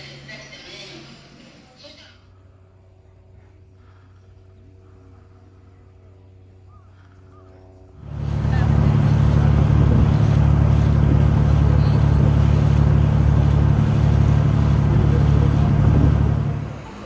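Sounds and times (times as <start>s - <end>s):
engine humming: 2.4s - 17.0s.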